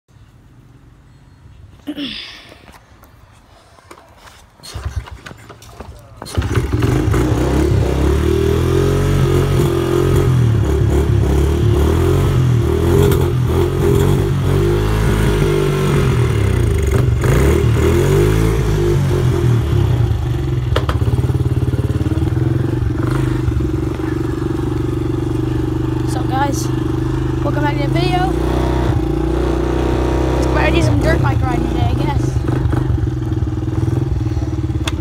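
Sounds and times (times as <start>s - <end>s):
dirt bike engine running: 6.2s - 35.0s.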